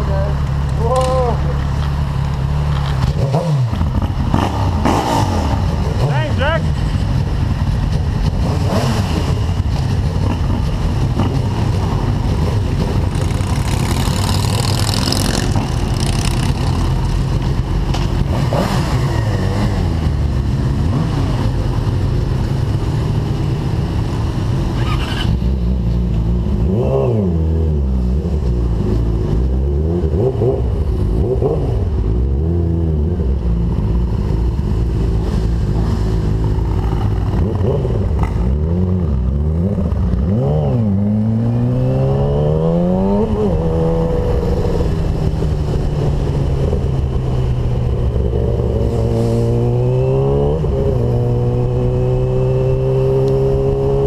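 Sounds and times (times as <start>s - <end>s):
motorcycle throttle revs: 0.7s - 6.4s, 8.3s - 22.0s, 24.7s - 54.0s.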